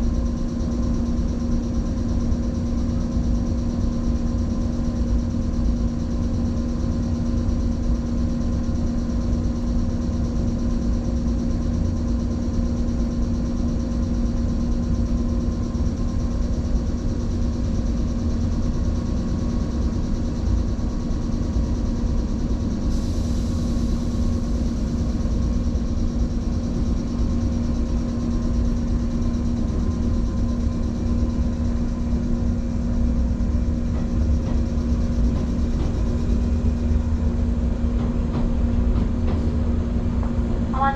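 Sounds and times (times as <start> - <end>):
electric train equipment hum: 0.0 - 40.9.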